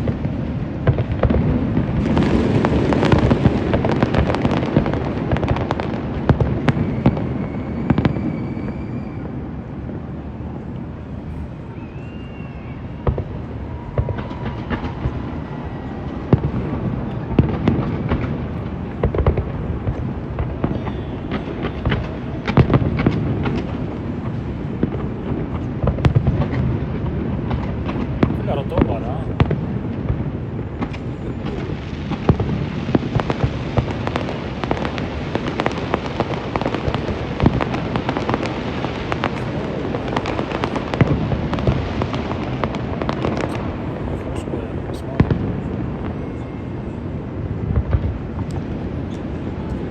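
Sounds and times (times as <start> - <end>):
fireworks bangs: 0.0 - 49.9
rumble of distant fireworks: 0.0 - 49.9.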